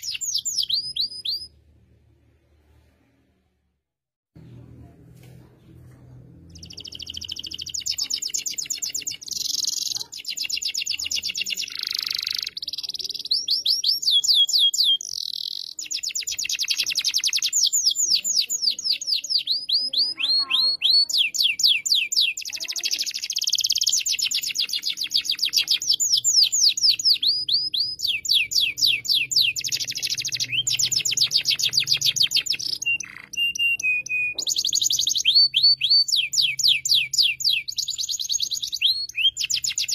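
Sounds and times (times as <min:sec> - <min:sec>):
canary singing rapid trills: 0:00.0 - 0:01.5, 0:06.5 - 0:39.9.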